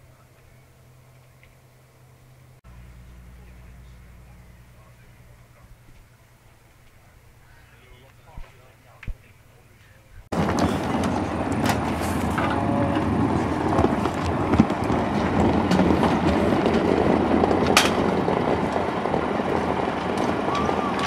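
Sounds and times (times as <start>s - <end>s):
coach engine rumbling: 0.0s - 21.0s.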